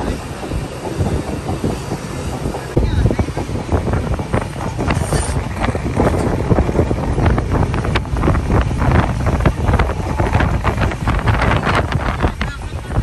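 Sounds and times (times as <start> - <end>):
train rumbling: 0.0 - 13.0
wheels clattering on track: 0.0 - 13.0
wind buffeting microphone: 0.0 - 13.0.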